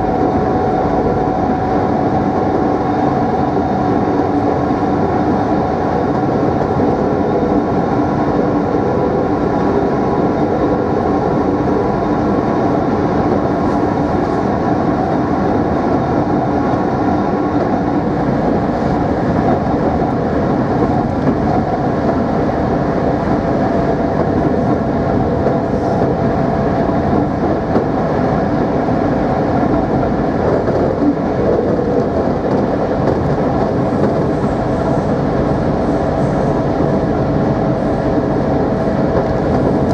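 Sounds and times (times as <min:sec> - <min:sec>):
train traction motor hum: 0:00.0 - 0:39.9
wheels rumbling on rail: 0:00.0 - 0:39.9.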